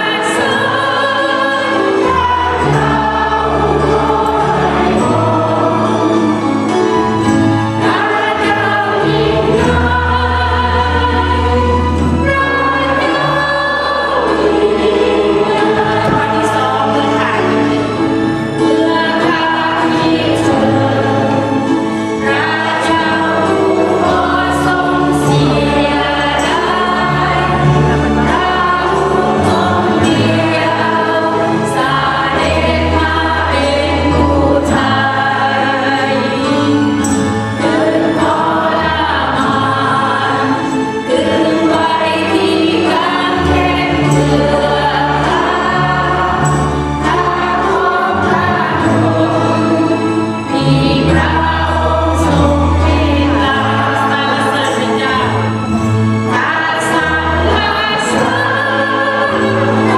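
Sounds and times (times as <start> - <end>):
many voices singing together: 0.0 - 59.9
worship band playing: 0.0 - 59.9.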